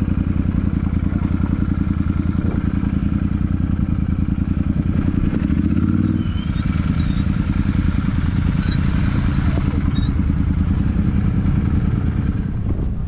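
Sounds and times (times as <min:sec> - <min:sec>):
motorcycle engine pulsing: 0:00.0 - 0:13.0.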